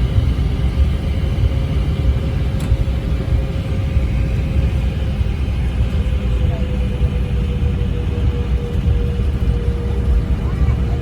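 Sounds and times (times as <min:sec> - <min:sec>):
airliner cabin low rumble: 0:00.0 - 0:11.0.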